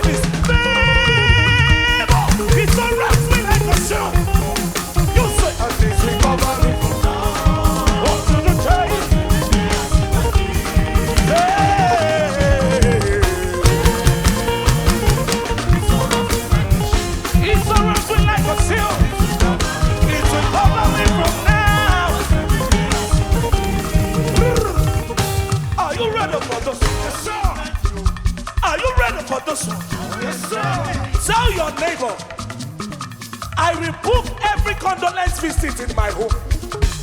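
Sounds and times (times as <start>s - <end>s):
person singing: 0.0s - 28.2s, 28.9s - 32.3s
drum kit beat: 0.0s - 37.0s
live band playing gospel music: 0.0s - 37.0s.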